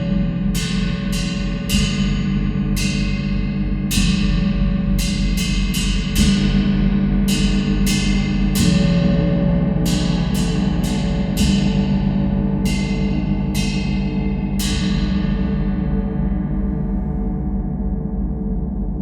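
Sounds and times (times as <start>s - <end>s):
gong strikes: 0.0s - 16.8s
low humming drone: 0.0s - 19.0s.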